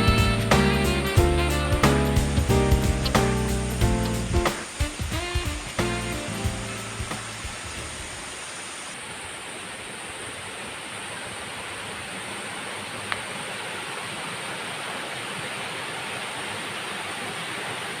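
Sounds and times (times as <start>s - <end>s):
flowing water: 0.0s - 18.0s.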